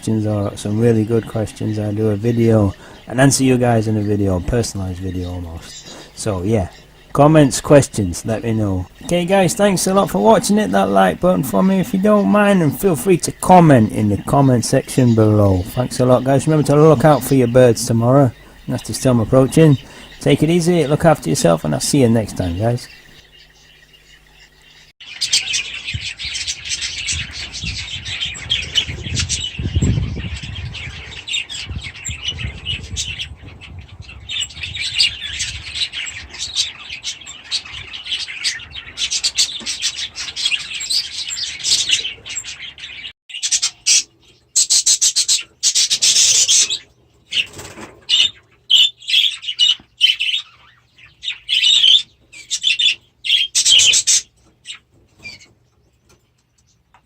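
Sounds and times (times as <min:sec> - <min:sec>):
budgies chattering and chirping: 0:00.0 - 0:57.0.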